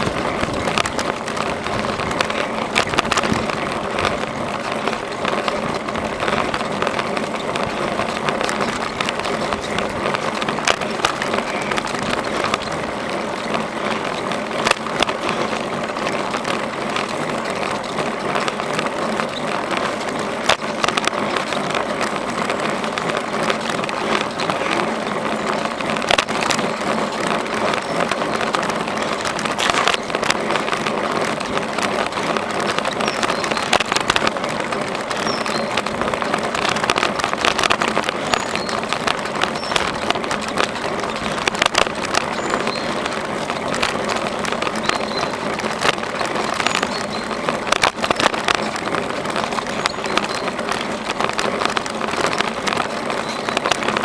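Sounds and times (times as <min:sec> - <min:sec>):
bicycle tyres rolling: 0:00.0 - 0:54.0
bike clicking and rattling: 0:00.0 - 0:54.0.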